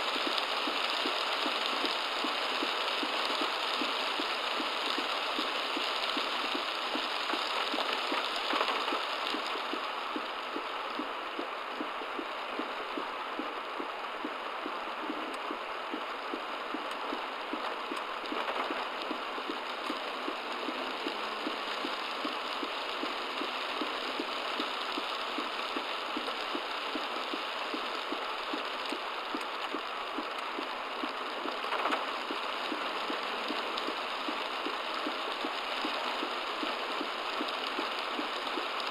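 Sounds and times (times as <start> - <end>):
heavy rain beating on a car: 0.0 - 38.9.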